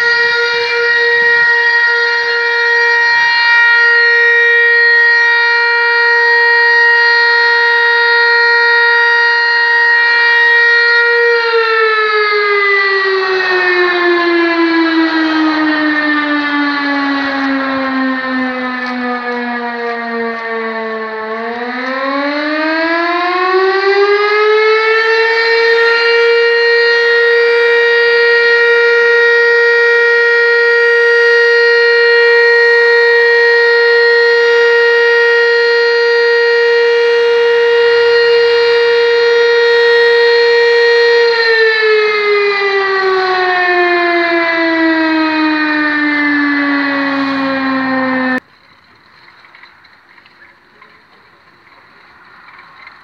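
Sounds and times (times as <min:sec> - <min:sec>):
fire station alarm siren: 0:00.0 - 0:48.5, 0:49.4 - 0:53.0.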